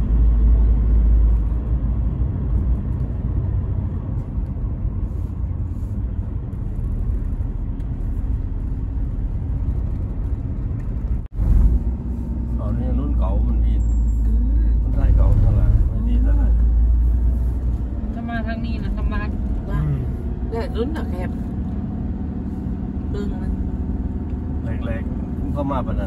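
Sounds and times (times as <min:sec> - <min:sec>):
car engine and tyres rumble: 0:00.0 - 0:26.0.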